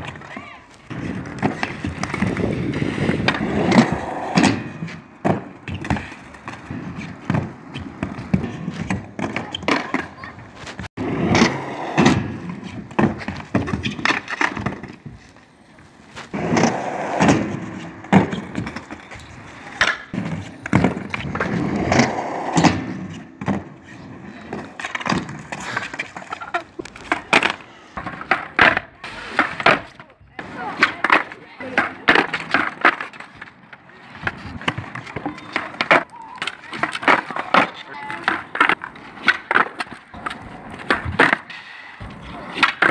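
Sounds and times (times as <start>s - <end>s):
skateboard tail clacking: 0.0s - 42.9s
skateboard wheels rolling on concrete: 0.0s - 42.9s.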